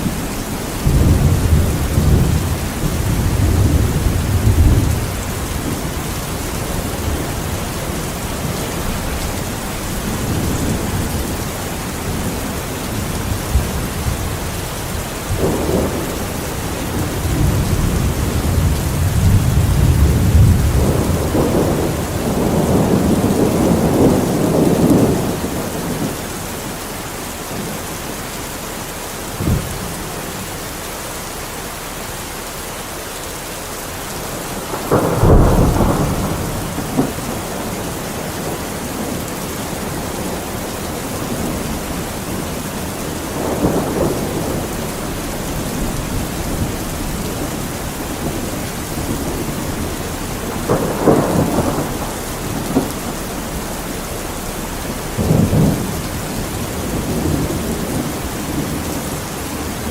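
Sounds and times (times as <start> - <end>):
thunder rumbling and cracking: 0.0 - 26.8, 29.3 - 30.5, 34.0 - 59.9
steady rain: 0.0 - 59.9.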